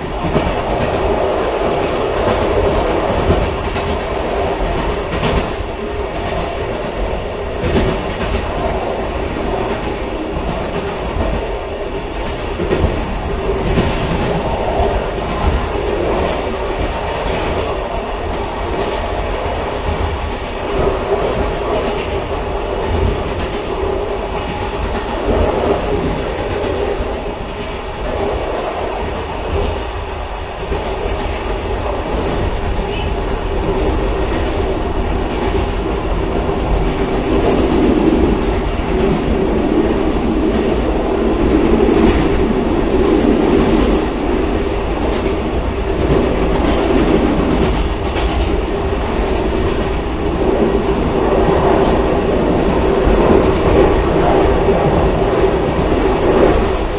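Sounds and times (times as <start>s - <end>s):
railcar rumbling on track: 0.0s - 56.9s.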